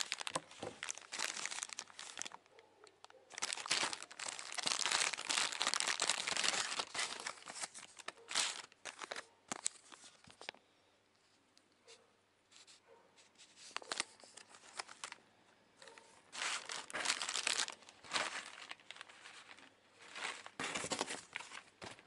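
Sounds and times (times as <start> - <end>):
plastic bags crinkling: 0.0 - 10.6, 13.6 - 15.2, 16.3 - 22.0.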